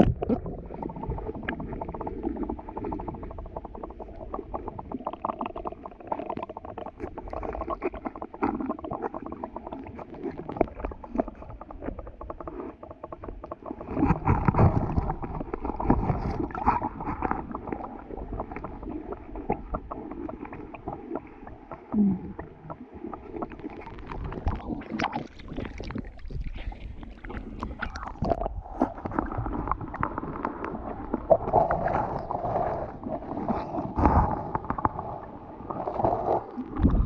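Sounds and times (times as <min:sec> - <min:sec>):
muffled underwater rumbling: 0:00.0 - 0:37.0.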